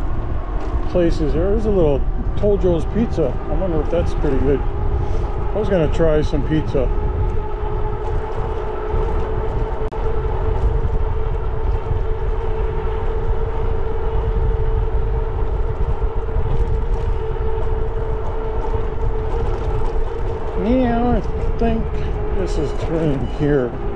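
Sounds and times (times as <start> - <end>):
electric motor whine: 0.0 - 23.9
wind rumbling on microphone: 0.0 - 23.9.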